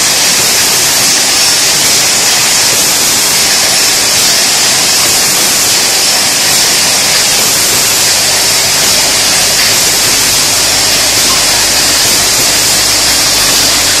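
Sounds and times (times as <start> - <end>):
bottle conveyor hiss: 0.0 - 14.0.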